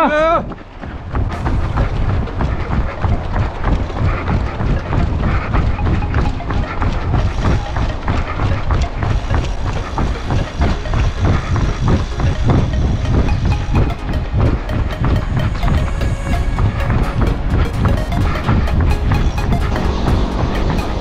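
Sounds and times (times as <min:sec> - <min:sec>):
running footsteps on asphalt: 0:00.0 - 0:21.0
wind rumble on microphone: 0:00.4 - 0:21.0.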